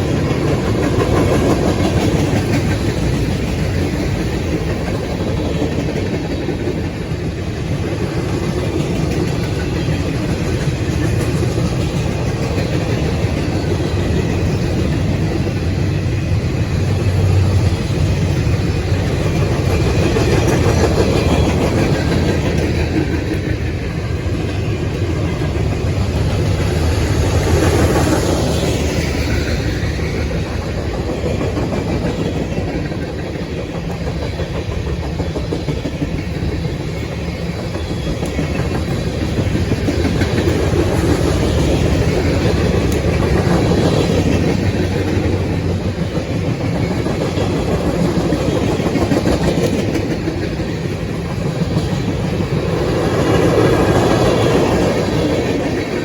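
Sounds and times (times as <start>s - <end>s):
steel wheels on rail: 0.0s - 56.0s.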